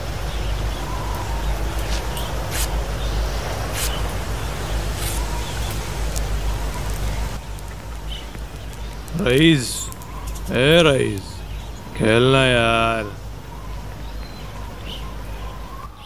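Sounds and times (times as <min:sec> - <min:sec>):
wood fire crackling: 0:00.0 - 0:15.2
steady low rumble: 0:00.0 - 0:15.7.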